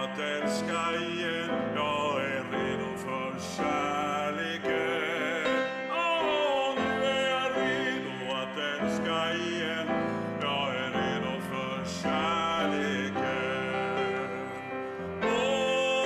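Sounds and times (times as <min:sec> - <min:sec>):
grand piano: 0:00.0 - 0:16.0
man singing: 0:00.0 - 0:16.0.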